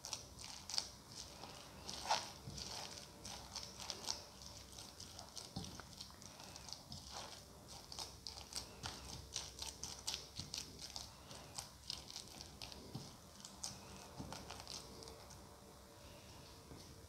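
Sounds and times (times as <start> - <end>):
hand squishing food in a bowl: 0.0 - 17.0.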